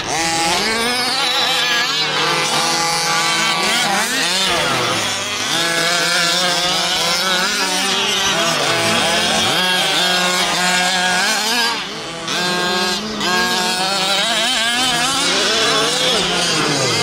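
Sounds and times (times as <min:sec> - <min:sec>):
small two-stroke engines revving: 0:00.0 - 0:17.0.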